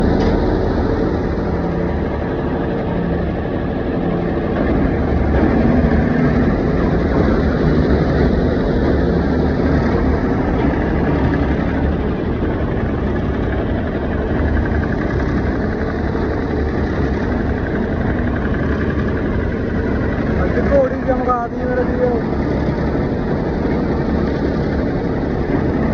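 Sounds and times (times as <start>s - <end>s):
heavy machine engine rumbling: 0.0s - 25.9s.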